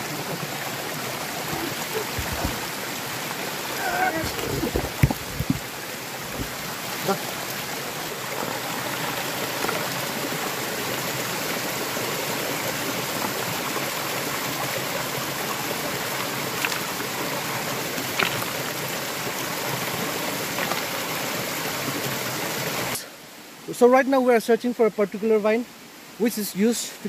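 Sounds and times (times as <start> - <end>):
stream splashing over stones: 0.0 - 23.0.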